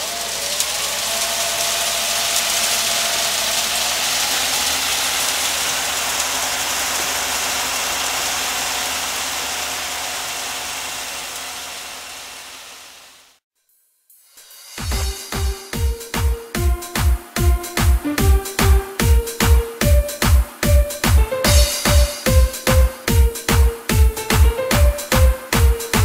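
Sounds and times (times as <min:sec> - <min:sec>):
heavy vehicle engine running: 0:00.0 - 0:13.4, 0:14.8 - 0:26.0
loud rushing hiss: 0:00.0 - 0:13.4, 0:14.3 - 0:26.0.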